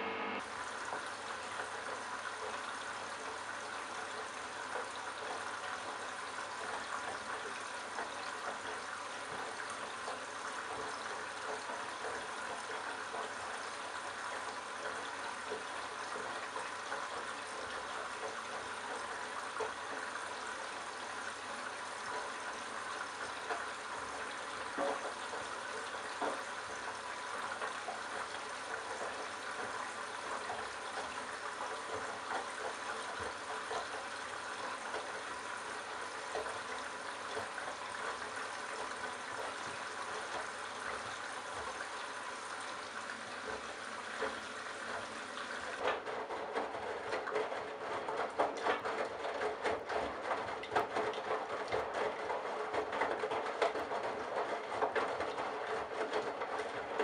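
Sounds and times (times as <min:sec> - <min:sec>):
water running into washing machine: 0:00.0 - 0:57.0
washing machine drum sloshing and knocking: 0:00.4 - 0:57.0.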